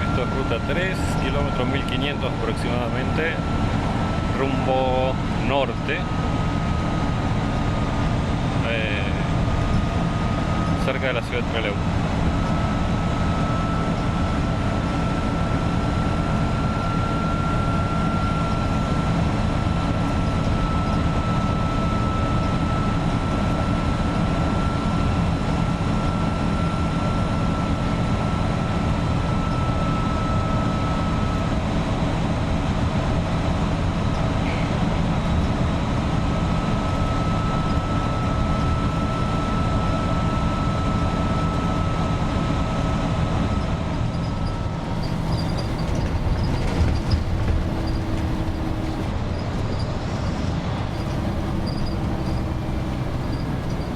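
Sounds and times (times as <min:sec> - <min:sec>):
diesel bus engine cruising: 0:00.0 - 0:53.9.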